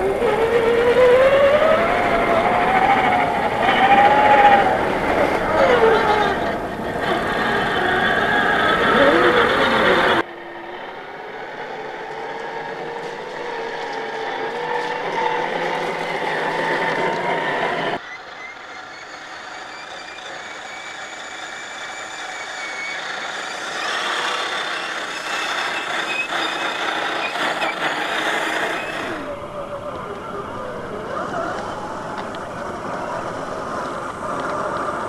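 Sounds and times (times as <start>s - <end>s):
electric motor and gearbox whine: 0.0s - 35.0s.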